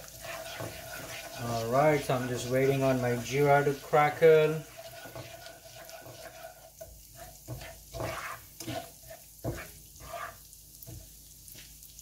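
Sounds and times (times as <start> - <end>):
spatula scraping a pan: 0.0 - 11.0
butter and seeds sizzling in a pan: 0.0 - 12.0.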